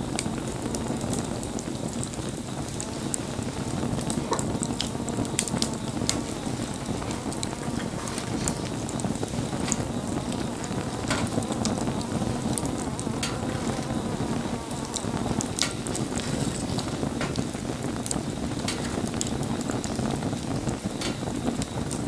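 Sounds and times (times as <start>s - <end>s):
burning wood crackling: 0.0s - 22.0s
fire low rumble: 0.0s - 22.0s.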